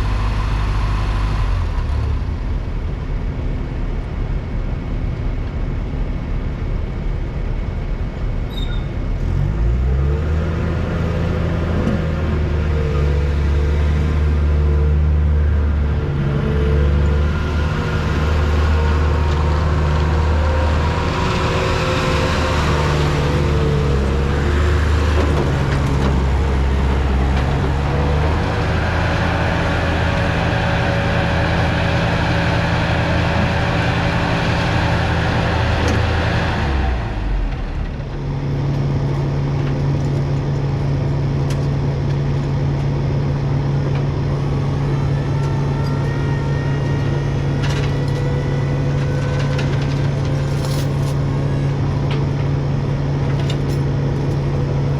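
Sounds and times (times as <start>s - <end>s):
vehicle engine running: 0.0s - 54.9s.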